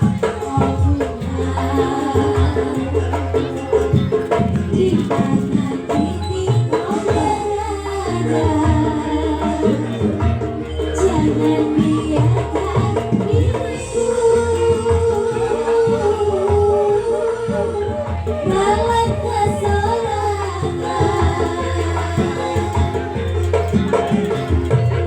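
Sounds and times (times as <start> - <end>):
gamelan percussion: 0.0 - 25.0
hand drums: 0.0 - 25.0
person singing: 0.0 - 25.0.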